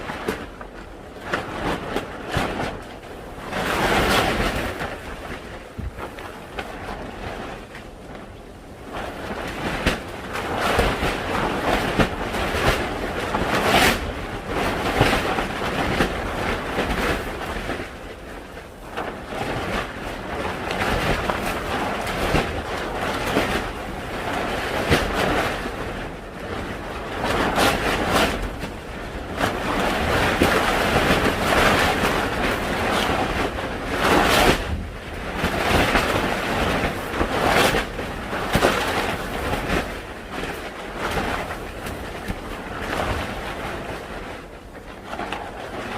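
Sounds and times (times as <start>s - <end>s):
wind gusting over microphone: 0.0s - 45.9s.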